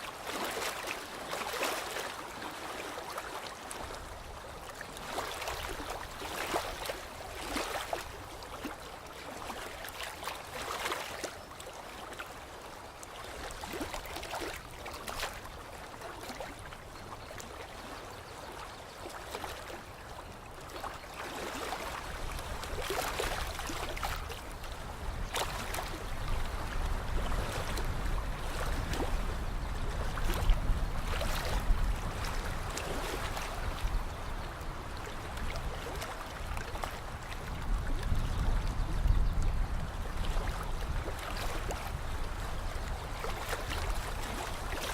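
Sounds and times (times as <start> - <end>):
water lapping at shore: 0.0 - 44.9.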